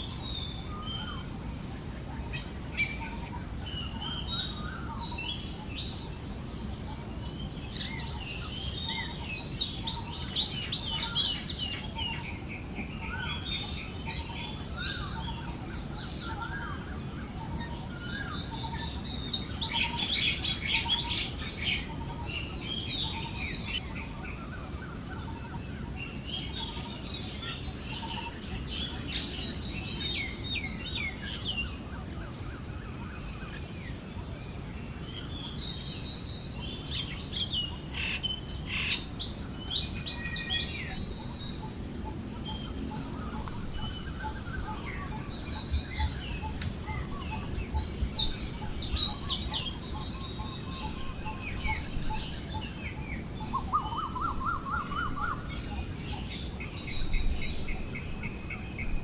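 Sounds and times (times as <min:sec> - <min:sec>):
high insect drone: 0:00.0 - 0:59.0
low rumble of breeze: 0:00.0 - 0:59.0.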